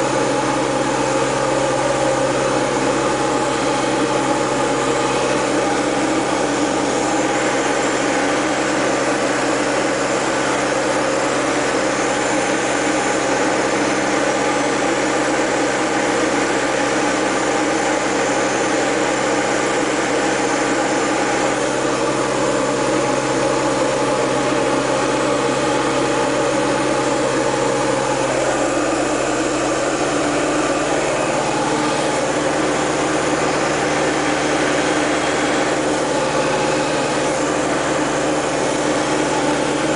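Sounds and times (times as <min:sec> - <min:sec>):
air noise over canopy: 0:00.0 - 0:39.9
airplane engine and propeller drone: 0:00.0 - 0:39.9.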